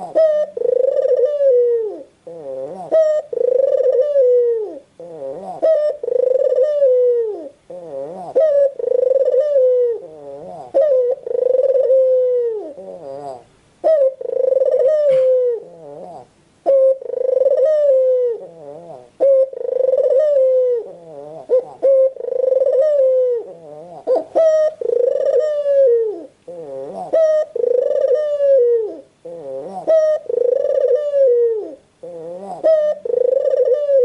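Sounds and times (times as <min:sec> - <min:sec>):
dove cooing: 0:00.0 - 0:34.0.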